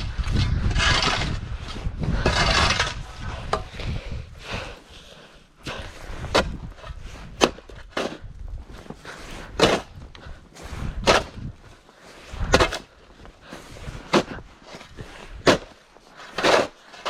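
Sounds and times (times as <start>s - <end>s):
snow shovel scraping snow: 0.2s - 3.8s, 4.5s - 17.0s.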